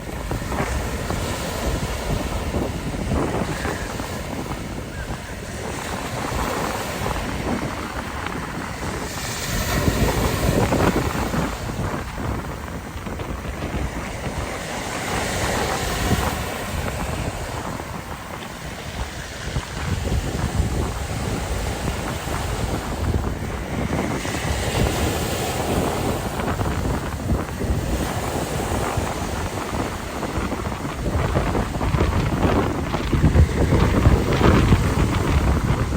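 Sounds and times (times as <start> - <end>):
sea waves washing in: 0.0 - 35.9
wind buffeting microphone: 0.0 - 35.9.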